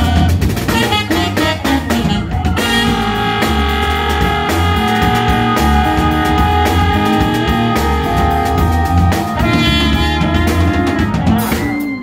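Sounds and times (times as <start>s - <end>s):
drum kit: 0.0s - 12.0s
electric guitar: 0.0s - 12.0s
low bass notes: 0.0s - 12.0s
trumpet solo: 0.0s - 12.0s.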